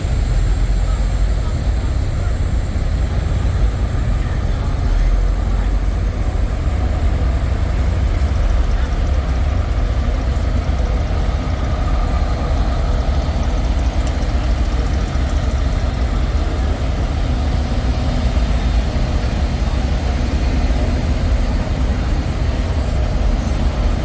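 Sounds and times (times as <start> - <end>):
truck engines idling: 0.0 - 24.0.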